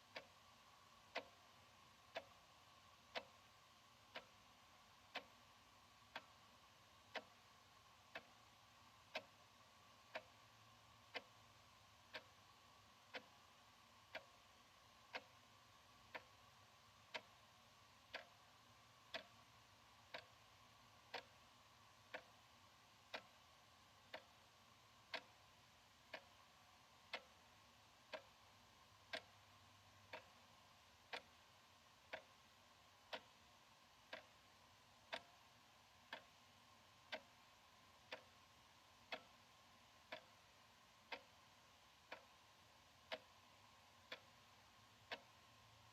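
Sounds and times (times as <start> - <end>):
wall clock ticking: 0.0 - 45.9.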